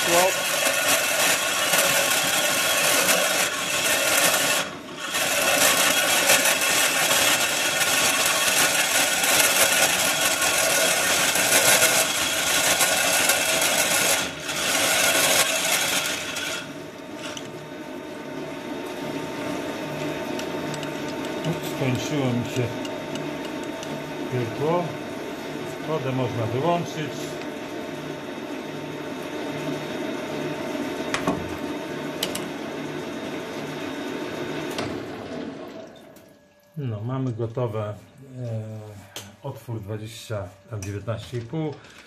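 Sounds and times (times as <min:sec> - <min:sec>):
lathe cutting metal: 0:00.0 - 0:35.2
lathe running: 0:00.0 - 0:36.3.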